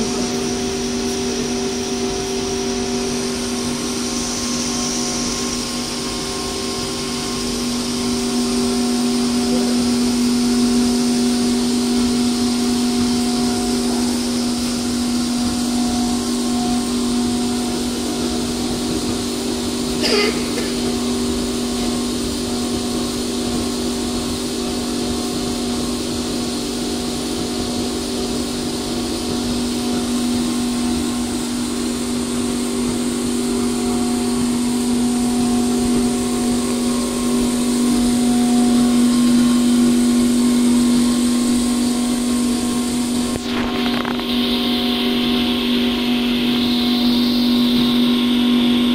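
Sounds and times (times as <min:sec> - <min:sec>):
tumbler motor humming: 0:00.0 - 0:48.9.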